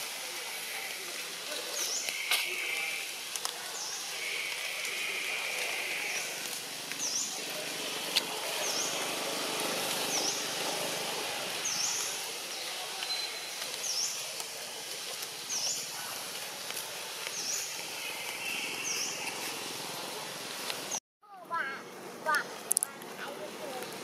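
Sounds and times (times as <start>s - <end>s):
outdoor ambient noise: 0.0s - 24.0s.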